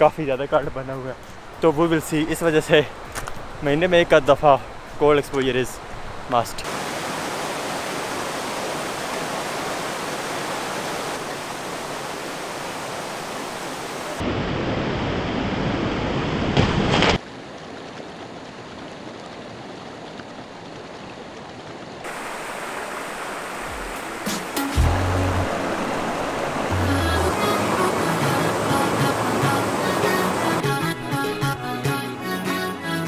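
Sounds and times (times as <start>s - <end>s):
stream rushing over rocks: 0.0s - 31.2s.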